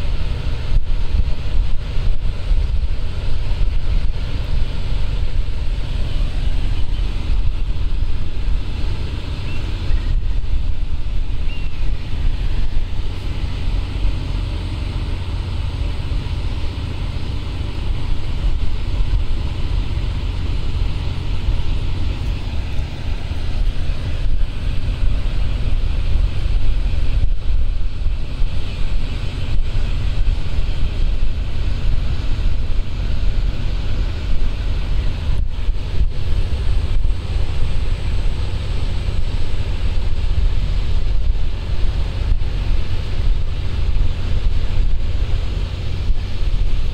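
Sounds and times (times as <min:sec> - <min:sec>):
hiss of moving water: 0:00.0 - 0:46.9
wind buffeting microphone: 0:00.0 - 0:46.9.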